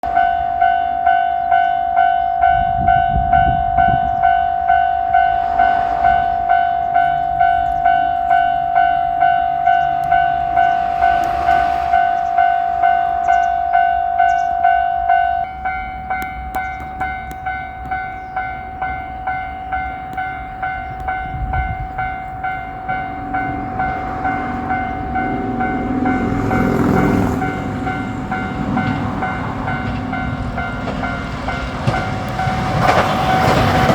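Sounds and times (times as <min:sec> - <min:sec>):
electric train passing: 0:00.0 - 0:33.9
level crossing warning bell: 0:00.0 - 0:33.9.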